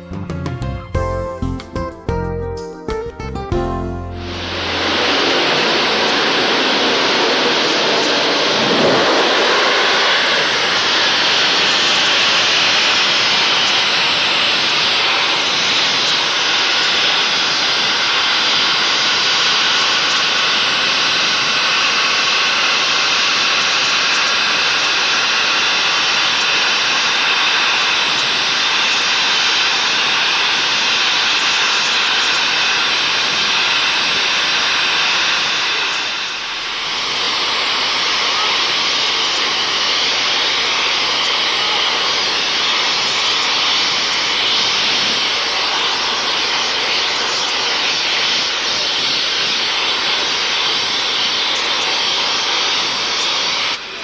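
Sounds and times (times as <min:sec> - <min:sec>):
steam locomotive hissing: 0:04.1 - 0:54.0.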